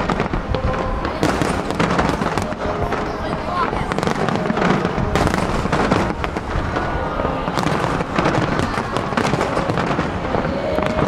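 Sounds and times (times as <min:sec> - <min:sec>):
fireworks bangs and crackling: 0:00.0 - 0:11.0
low rumble: 0:00.0 - 0:11.0.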